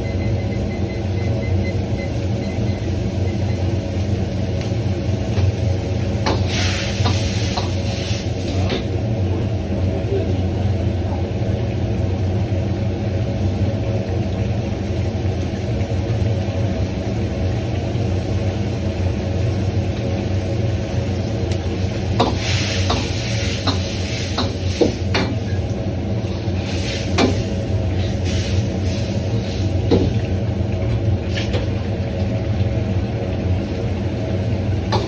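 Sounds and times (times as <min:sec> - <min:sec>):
wok burner roaring: 0:00.0 - 0:35.0
food sizzling: 0:01.8 - 0:09.2, 0:12.6 - 0:35.0.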